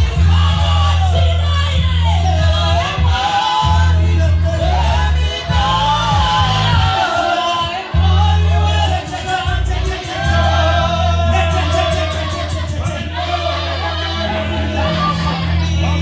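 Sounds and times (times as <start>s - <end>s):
heavy bass line: 0.0s - 16.0s
voices singing gospel music: 0.0s - 16.0s.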